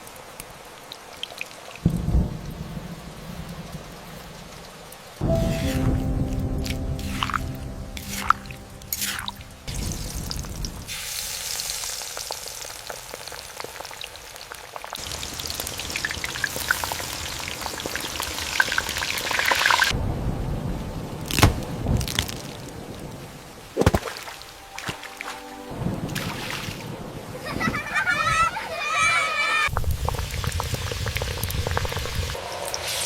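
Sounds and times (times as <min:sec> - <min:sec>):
rain falling: 0:00.0 - 0:32.8.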